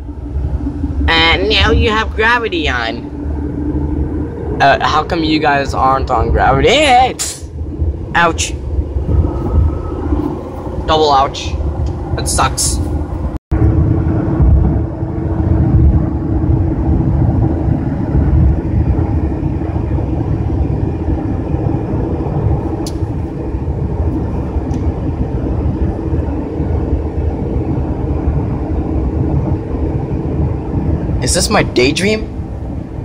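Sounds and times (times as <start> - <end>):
faint steady drone: 0.0 - 33.0
vehicle cabin rumble: 0.0 - 33.0.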